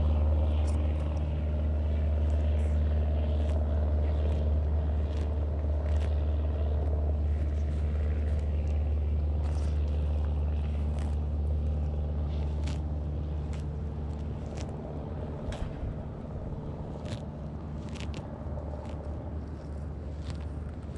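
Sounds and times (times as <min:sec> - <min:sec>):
low engine drone: 0:00.0 - 0:20.9
tortoise biting grass clicks: 0:00.0 - 0:20.9.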